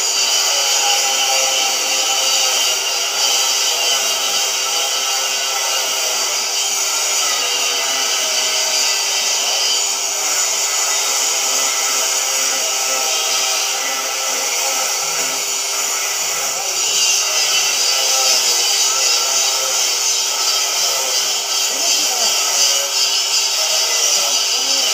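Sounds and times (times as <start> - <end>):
cutting torch hissing: 0.0 - 24.9.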